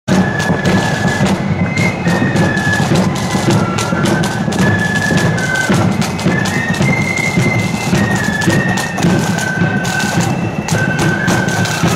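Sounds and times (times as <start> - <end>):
flutes playing melody: 0.1 - 11.9
snare and bass drums: 0.1 - 11.9.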